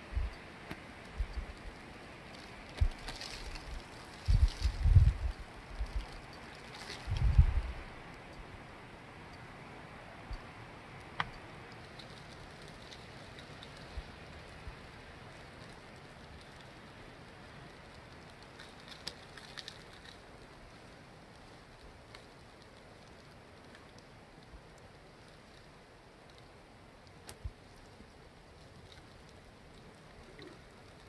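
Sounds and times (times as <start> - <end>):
wind and falling snow hiss: 0.0 - 31.0
light ticks: 0.1 - 8.5, 10.3 - 31.0.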